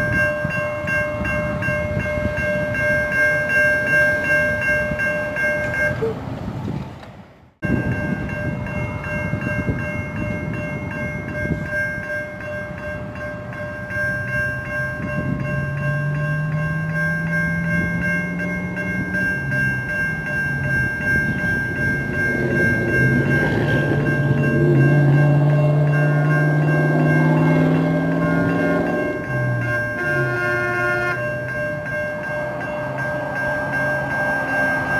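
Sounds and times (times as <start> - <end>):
railroad crossing bell ringing: 0.0 - 6.2, 7.6 - 34.9.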